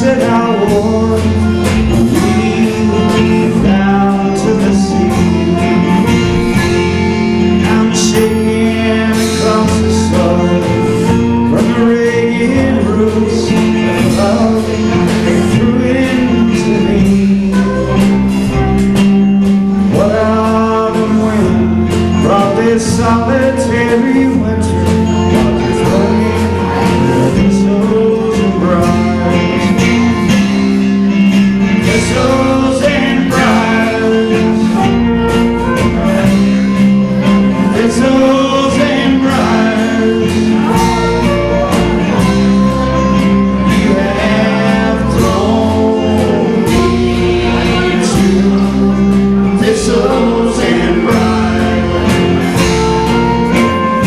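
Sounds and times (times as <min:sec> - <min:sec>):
live bluegrass band playing: 0:00.0 - 0:54.0.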